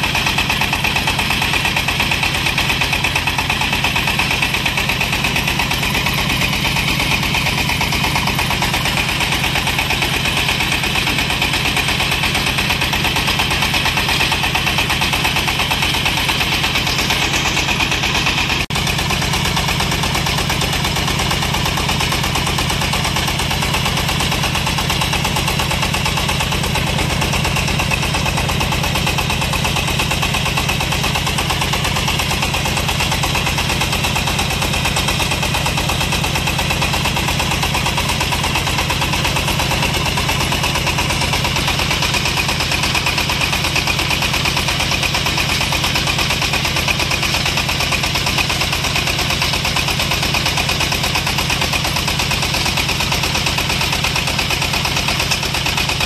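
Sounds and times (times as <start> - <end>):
drilling rig engine chugging: 0.0 - 56.0.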